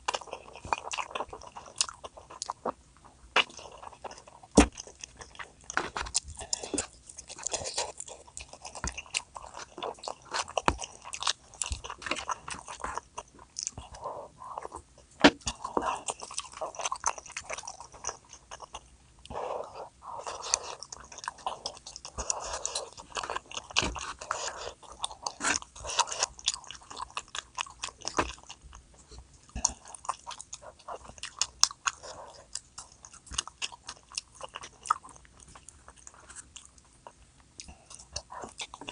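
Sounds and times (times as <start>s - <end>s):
person chewing and biting food: 0.0s - 38.9s.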